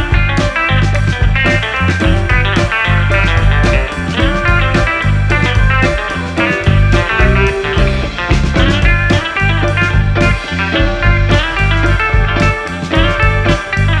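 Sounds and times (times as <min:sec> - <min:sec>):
blues-rock music: 0:00.0 - 0:14.0.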